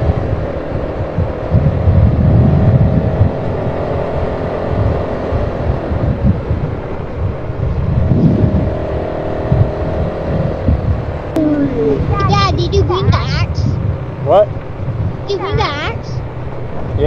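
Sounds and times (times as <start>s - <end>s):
off-road vehicle engine climbing: 0.0s - 17.0s.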